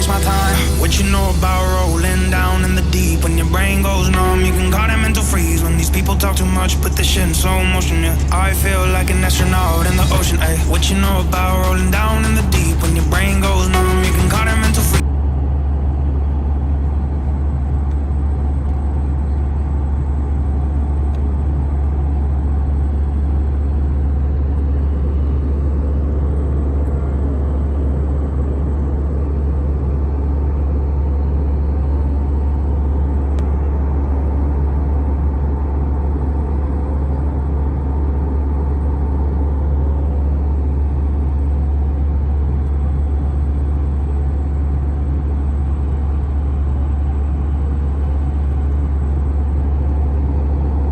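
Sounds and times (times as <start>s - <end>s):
airplane low rumble: 0.0s - 50.9s.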